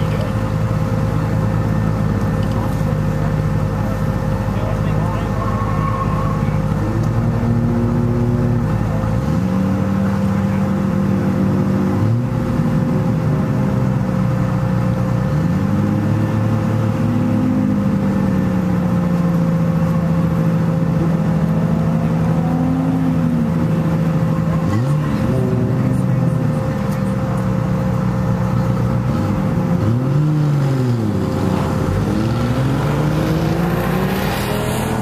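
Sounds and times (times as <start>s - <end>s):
car engines idling and revving: 0.0s - 35.0s.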